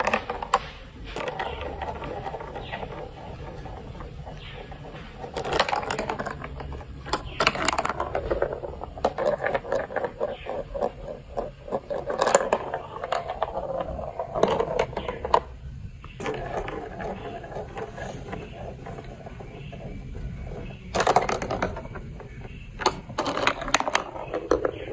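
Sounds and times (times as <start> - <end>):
plastic marble run clicking: 0.0 - 24.9.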